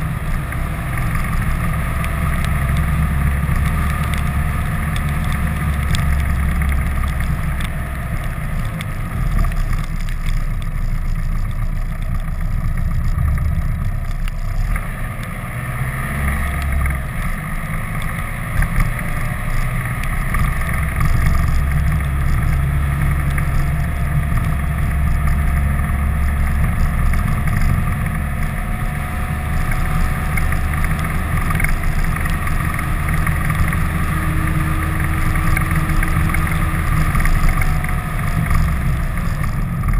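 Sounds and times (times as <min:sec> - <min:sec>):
engine low rumble: 0:00.0 - 0:39.9.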